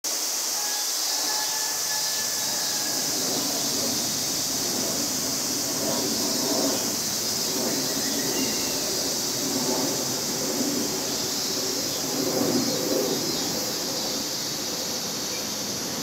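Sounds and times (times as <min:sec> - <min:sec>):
steady hissing noise: 0:00.1 - 0:16.0.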